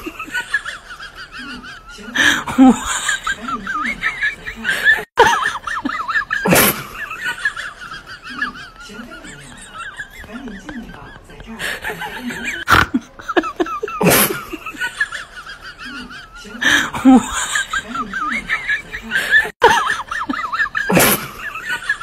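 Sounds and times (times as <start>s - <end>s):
high-pitched wavering laughter: 0.0s - 11.1s, 11.9s - 22.0s.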